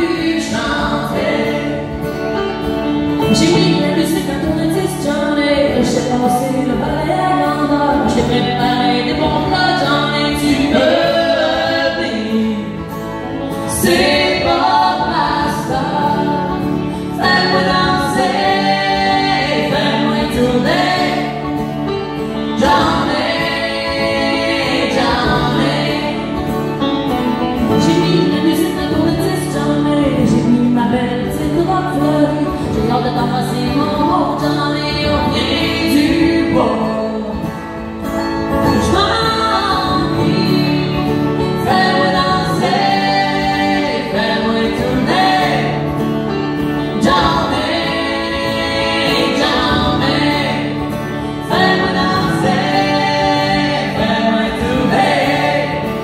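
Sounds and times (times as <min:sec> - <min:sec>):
picked banjo: 0:00.0 - 0:56.0
strummed acoustic guitar: 0:00.0 - 0:56.0
woman singing: 0:00.0 - 0:56.0.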